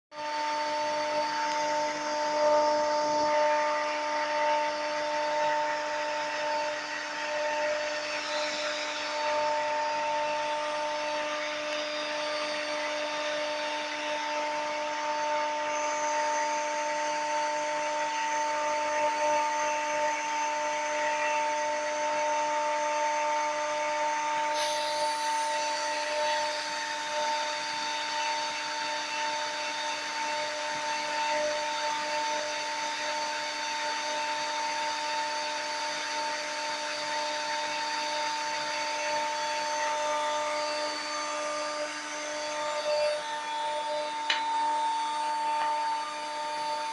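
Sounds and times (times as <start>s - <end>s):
router spindle whine: 0.1s - 46.9s
cutter milling hiss: 0.2s - 46.9s.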